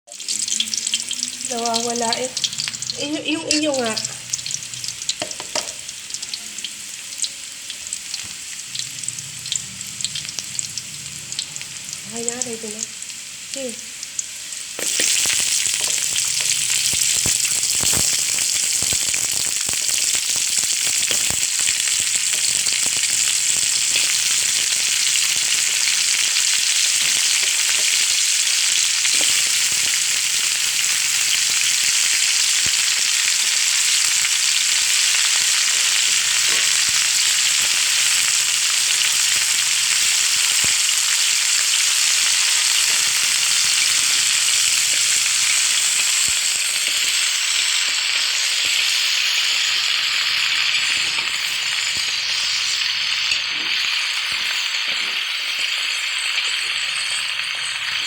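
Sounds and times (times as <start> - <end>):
oil popping and crackling: 0.1 - 6.5, 7.2 - 58.0
chicken sizzling in hot oil: 0.1 - 58.0.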